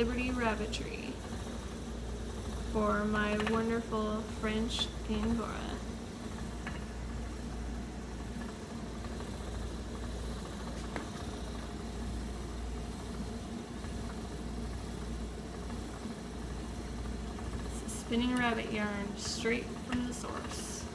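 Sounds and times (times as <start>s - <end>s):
spinning wheel motor hum: 0.0s - 20.9s.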